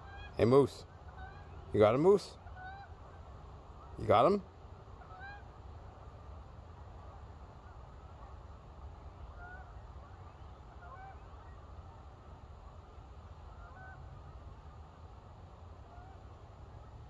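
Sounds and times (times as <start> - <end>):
distant geese honking: 0.0 - 6.4, 7.0 - 17.0.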